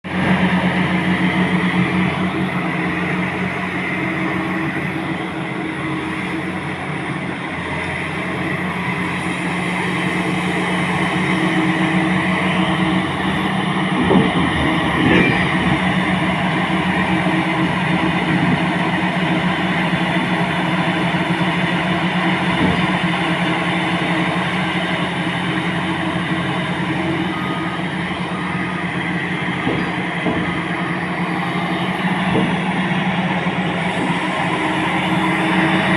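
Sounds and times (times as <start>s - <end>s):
excavator diesel engine droning: 0.0s - 35.9s.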